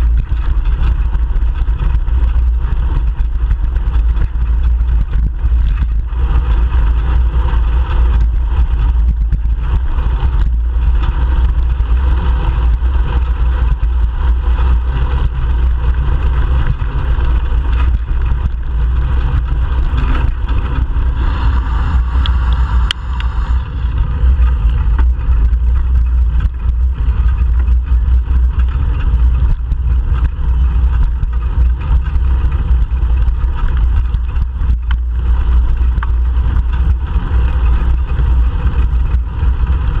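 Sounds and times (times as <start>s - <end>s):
car engines running: 0.0s - 40.0s
road noise: 0.0s - 40.0s
wind noise: 0.0s - 40.0s.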